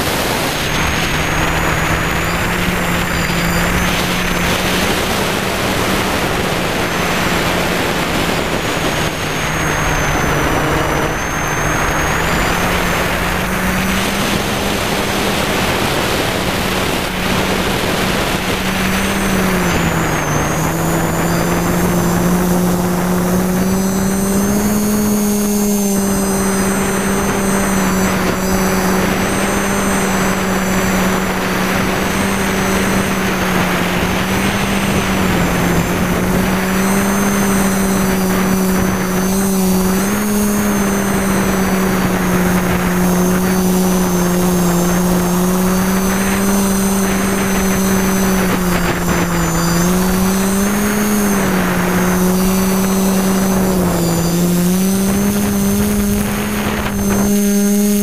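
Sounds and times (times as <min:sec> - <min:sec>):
drone motors humming: 0:00.0 - 0:58.0
wind noise: 0:00.0 - 0:58.0.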